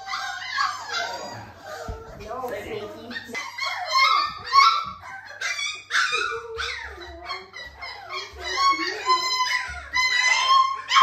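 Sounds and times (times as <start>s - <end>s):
puppies yipping and whining: 0.0s - 11.0s.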